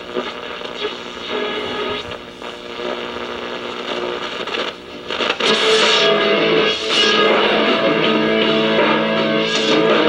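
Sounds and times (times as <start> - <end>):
radio hum and static: 0.0 - 10.0.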